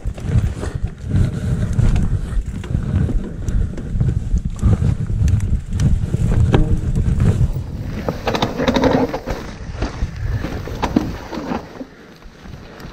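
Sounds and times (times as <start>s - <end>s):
bike rumbling and rattling: 0.0s - 12.9s
wind buffeting microphone: 0.0s - 12.9s.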